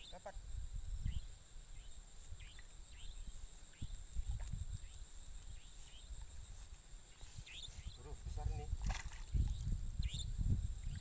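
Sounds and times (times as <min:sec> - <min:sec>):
high-pitched insect drone: 0:00.0 - 0:11.0
wind rumble on microphone: 0:00.4 - 0:01.4, 0:02.3 - 0:11.0.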